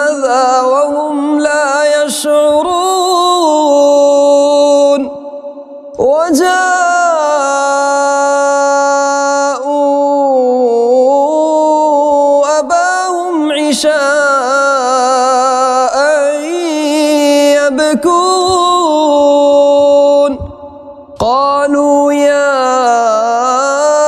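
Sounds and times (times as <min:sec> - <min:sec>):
man chanting melodic recitation: 0:00.0 - 0:05.4, 0:06.0 - 0:24.0.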